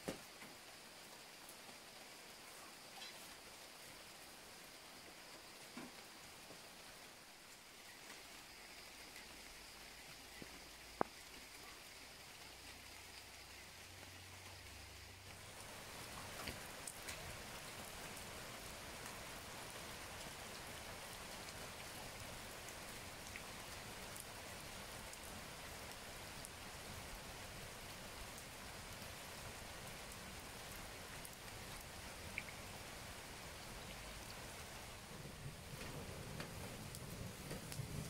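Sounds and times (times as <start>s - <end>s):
rain falling on leaves: 0.0s - 38.0s.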